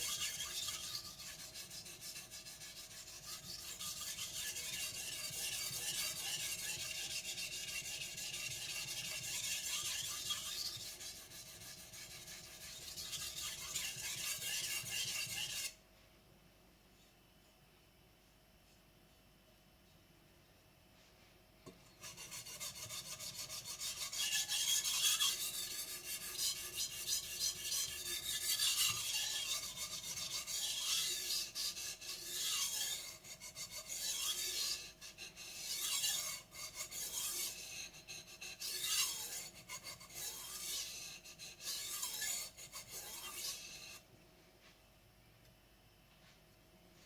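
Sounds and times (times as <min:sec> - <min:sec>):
knife scraping on whetstone: 0:00.0 - 0:15.8, 0:22.0 - 0:44.0.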